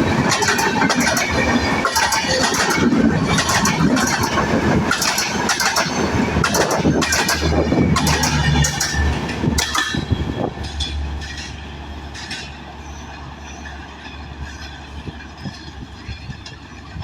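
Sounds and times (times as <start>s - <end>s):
train wheels clattering over rail joints: 0.0s - 17.0s.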